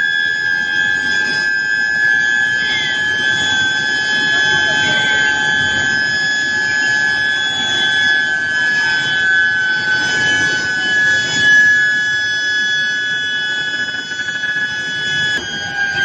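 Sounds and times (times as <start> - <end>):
broad mechanical noise: 0.0 - 16.0
induction coils high-pitched whine: 0.0 - 16.0.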